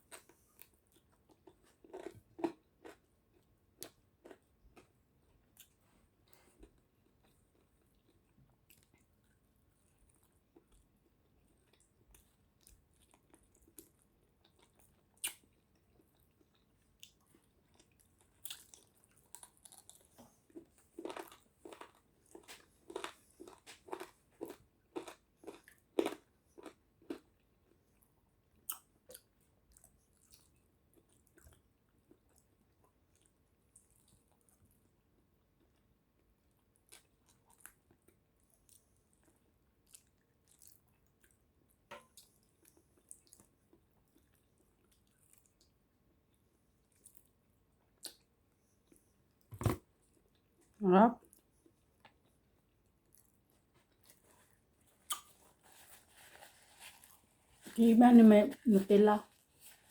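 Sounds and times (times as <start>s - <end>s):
person chewing food: 0.0s - 57.8s.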